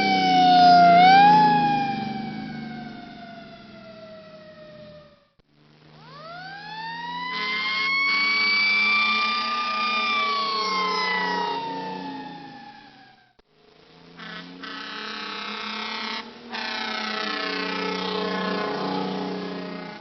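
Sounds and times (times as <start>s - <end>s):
fire truck siren wailing: 0.0s - 5.3s, 6.0s - 13.4s, 14.7s - 20.0s
truck engine hum: 0.0s - 20.0s.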